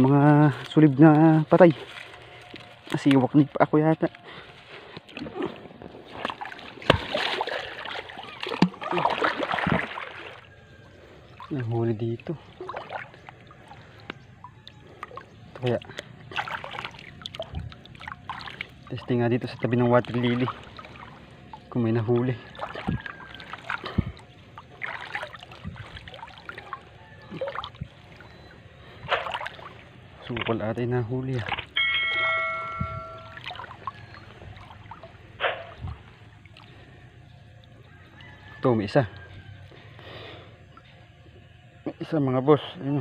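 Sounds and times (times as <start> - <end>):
water splashing and sloshing: 0.0 - 42.1.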